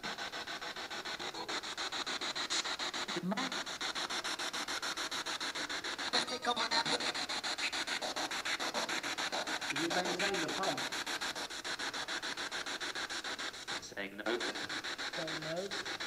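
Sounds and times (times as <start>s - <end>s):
radio static pulsing: 1.3s - 16.0s.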